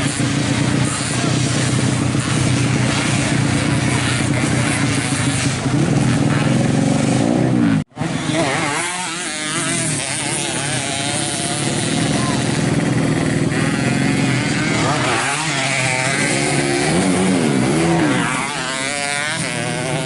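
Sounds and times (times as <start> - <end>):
racing motorcycle engines revving: 0.0 - 20.0.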